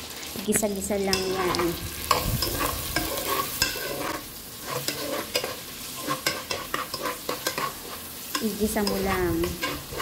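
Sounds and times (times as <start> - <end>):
food sizzling in hot oil: 0.0 - 10.0
metal spoon scraping a pan: 1.0 - 10.0.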